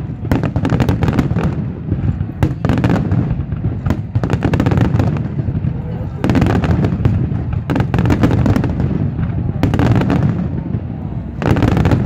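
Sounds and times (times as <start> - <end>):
continuous low rumble: 1.3 - 12.0.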